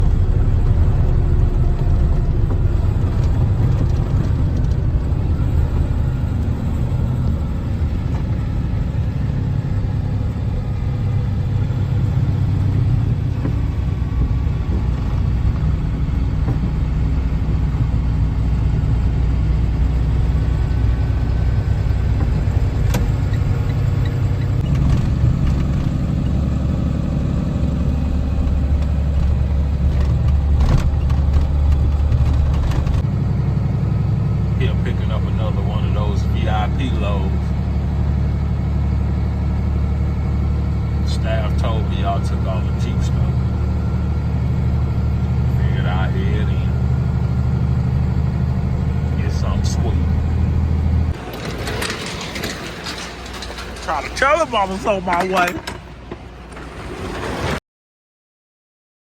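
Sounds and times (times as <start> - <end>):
truck engine rumbling: 0.0 - 57.6.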